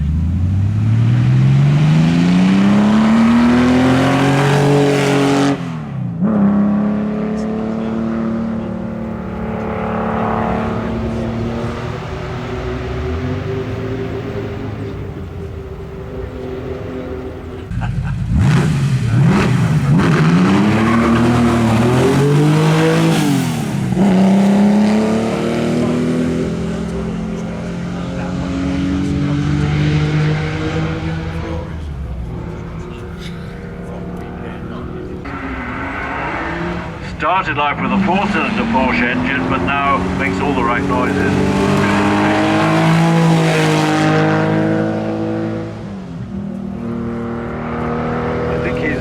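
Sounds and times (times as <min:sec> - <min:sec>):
racing engine accelerating: 0:00.0 - 0:49.0.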